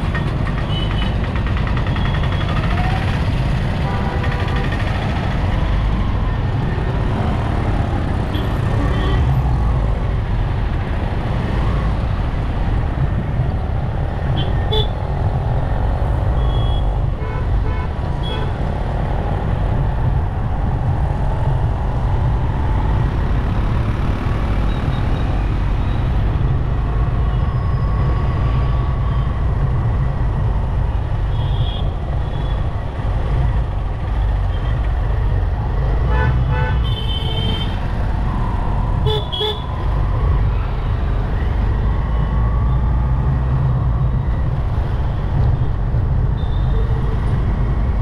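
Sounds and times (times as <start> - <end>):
traffic rumble and road noise: 0.0 - 48.0.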